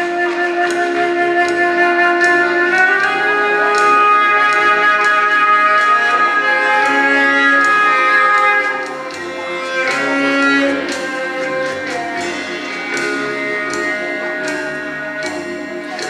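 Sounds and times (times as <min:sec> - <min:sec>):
string-like instrumental music: 0:00.0 - 0:16.0.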